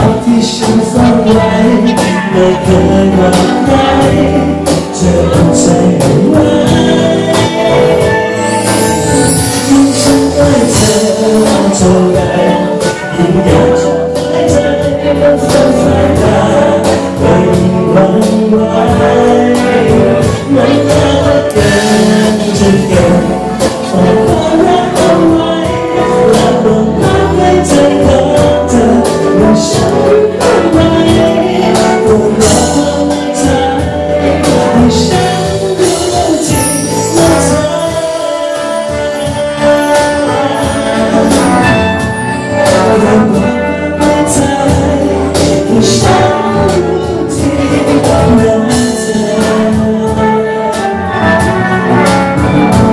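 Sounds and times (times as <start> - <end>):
electric guitar: 0.0 - 52.9
keyboards: 0.0 - 52.9
man singing: 0.0 - 52.9
trumpet: 0.0 - 52.9.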